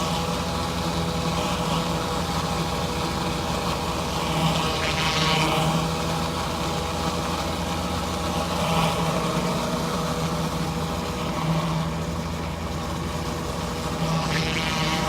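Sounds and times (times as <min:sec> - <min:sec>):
pressure washer engine running: 0:00.0 - 0:15.0.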